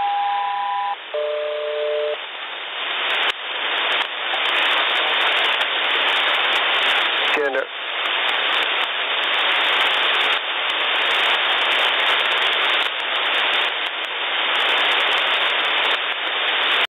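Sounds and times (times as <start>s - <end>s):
radio static hiss: 1.0s - 16.9s.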